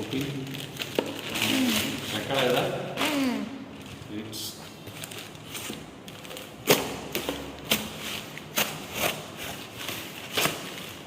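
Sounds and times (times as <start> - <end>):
packaging rustling: 0.0 - 2.7, 3.7 - 11.0.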